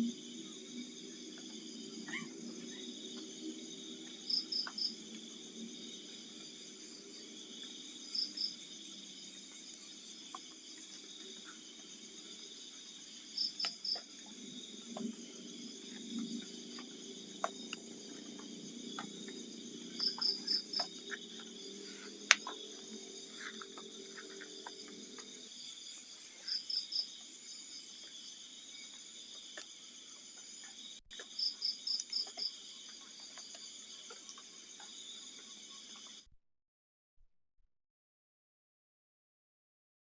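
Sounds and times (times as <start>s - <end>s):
crickets trilling: 0.0s - 36.3s.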